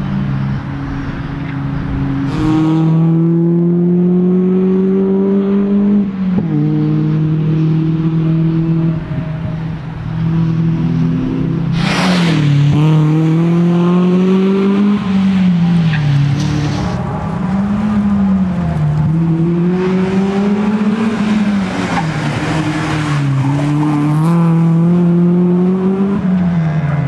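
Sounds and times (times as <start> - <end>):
rally car engine revving hard: 2.1 - 9.2, 10.2 - 26.6.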